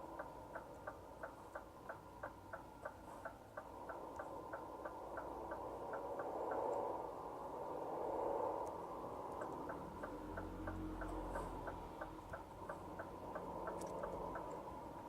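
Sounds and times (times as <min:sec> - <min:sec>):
turn signal ticking: 0:00.0 - 0:07.2, 0:08.6 - 0:15.0
engine and road drone: 0:00.0 - 0:15.0.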